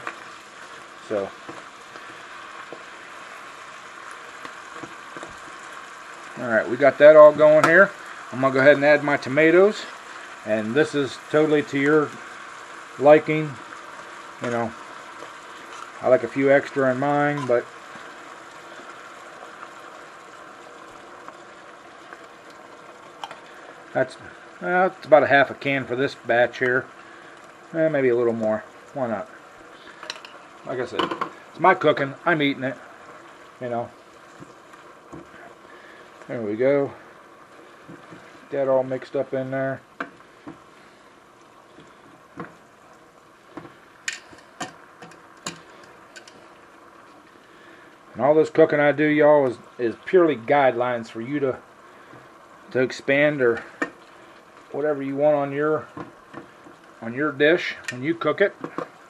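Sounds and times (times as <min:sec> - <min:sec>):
sauce simmering in a pan: 0:00.0 - 0:59.0.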